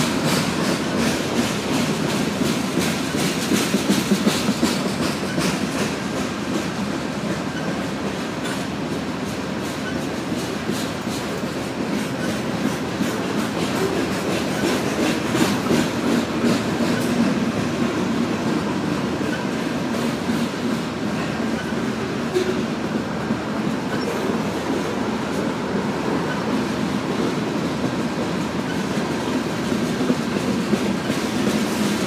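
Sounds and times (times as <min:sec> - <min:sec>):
steel train wheels rumbling on rail: 0:00.0 - 0:32.0
wheels clicking over rail joints: 0:00.0 - 0:32.0.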